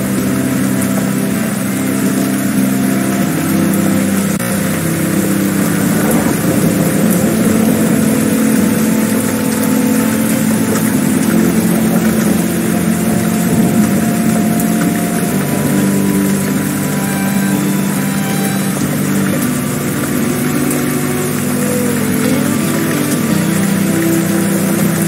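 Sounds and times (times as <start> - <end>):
engine running steadily: 0.0 - 25.0
loud rushing noise: 0.0 - 25.0.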